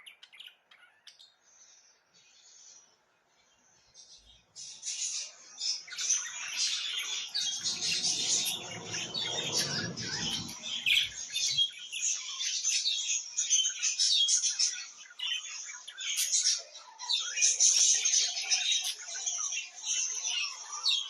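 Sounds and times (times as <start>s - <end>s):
budgerigars chirping and warbling: 0.0s - 2.9s, 3.7s - 21.0s.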